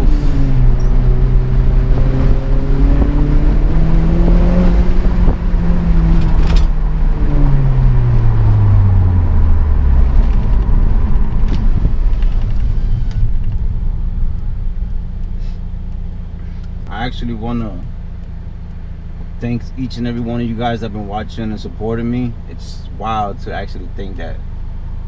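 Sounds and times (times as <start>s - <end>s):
car engine and exhaust accelerating: 0.0s - 25.0s.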